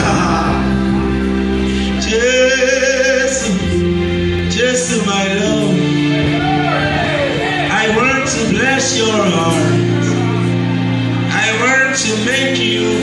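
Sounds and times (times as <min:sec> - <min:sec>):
man singing into microphone: 0:00.0 - 0:06.8, 0:07.6 - 0:10.5, 0:11.3 - 0:13.0
sustained backing chords: 0:00.0 - 0:13.0.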